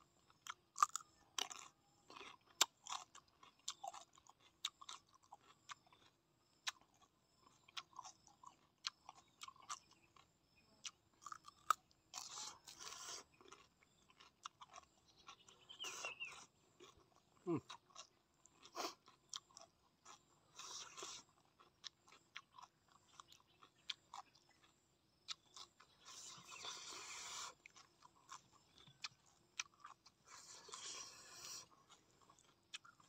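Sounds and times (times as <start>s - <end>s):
person chewing with wet smacks: 0.1s - 33.0s.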